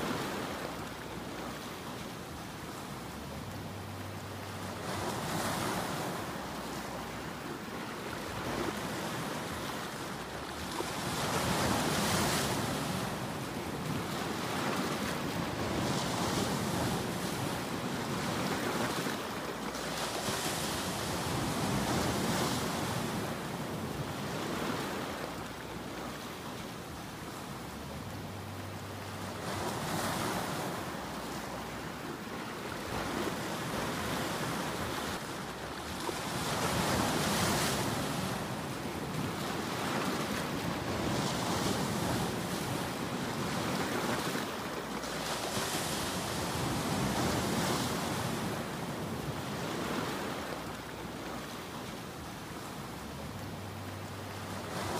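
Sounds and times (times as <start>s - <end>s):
ocean waves breaking: 0.0s - 54.9s.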